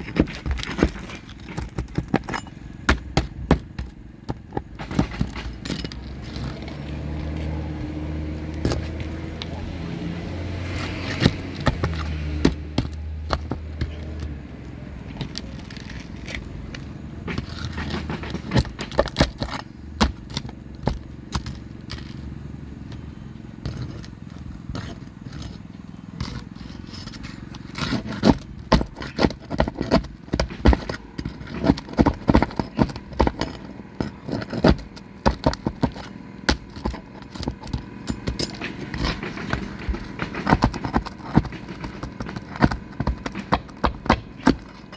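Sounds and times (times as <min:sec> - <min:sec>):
metallic clicks scrapes and knocks: 0:00.0 - 0:44.9.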